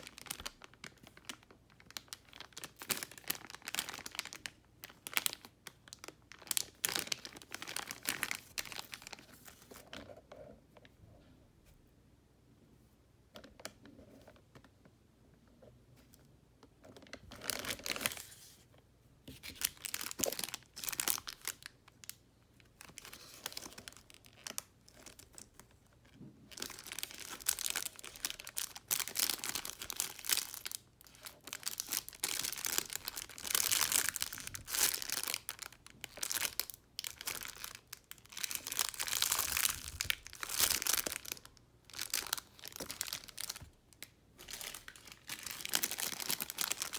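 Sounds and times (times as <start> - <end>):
plastic packaging crinkling: 0.0 - 10.1, 16.9 - 18.6, 19.3 - 46.9.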